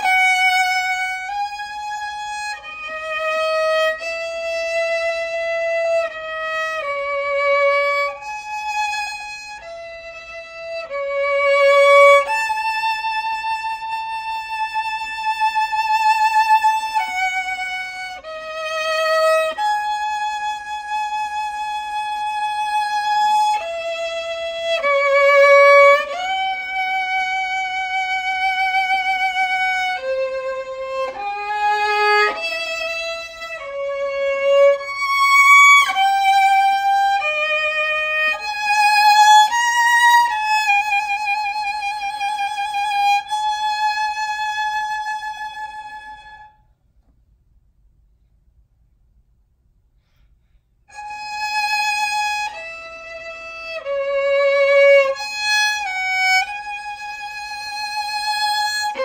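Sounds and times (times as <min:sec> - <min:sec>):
solo violin slow melody: 0:00.0 - 0:46.7, 0:50.8 - 0:59.0.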